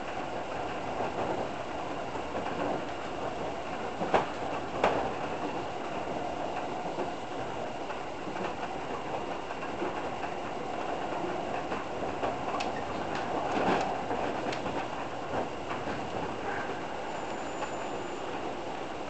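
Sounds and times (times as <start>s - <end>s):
train clicks: 0.0s - 19.0s
train wheels rumbling on rail: 0.0s - 19.0s.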